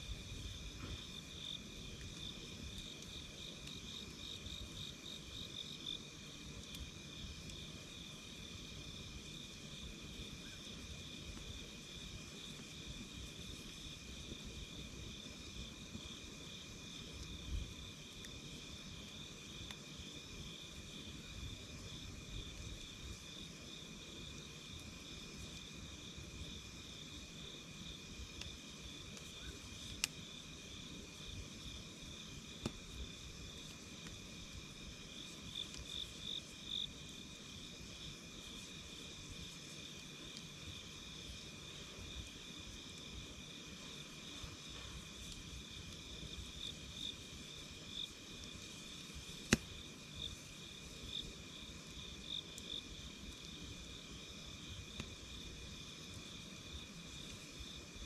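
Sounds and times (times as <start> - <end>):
burning wood crackles and pops: 0.0 - 58.0
campfire low noise: 0.0 - 58.0
crickets trilling: 0.0 - 58.0.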